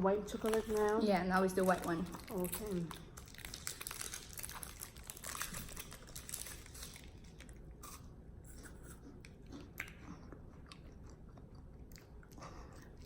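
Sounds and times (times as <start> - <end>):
chewing crunchy wafer: 1.6 - 13.0.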